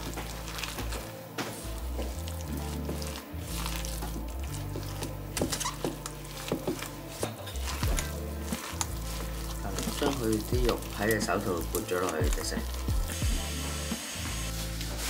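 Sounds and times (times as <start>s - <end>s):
background music with bass line: 0.0s - 15.0s
wet squishing of filling being mixed: 0.0s - 15.0s.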